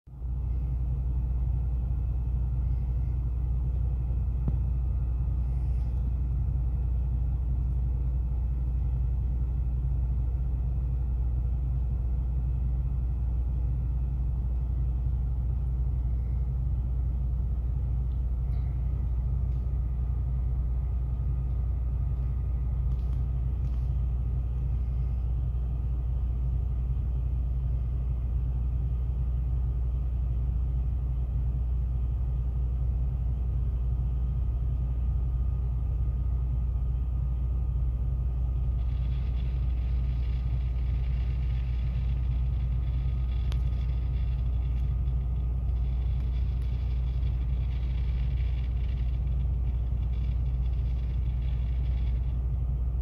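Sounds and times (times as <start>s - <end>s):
truck engine idling: 0.1s - 53.0s.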